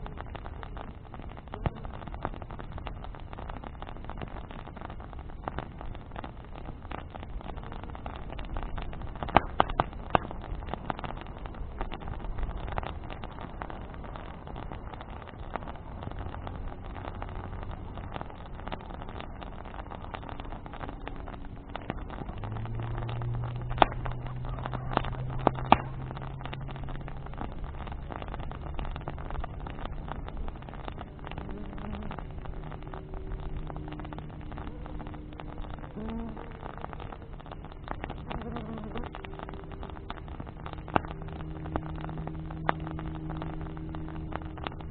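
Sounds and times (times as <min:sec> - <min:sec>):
bonfire crackling and popping: 0:00.0 - 0:44.9
low engine hum: 0:00.0 - 0:44.9.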